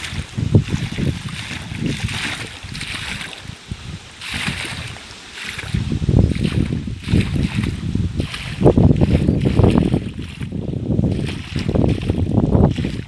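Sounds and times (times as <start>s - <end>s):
water gushing from pipe: 0.0s - 13.0s.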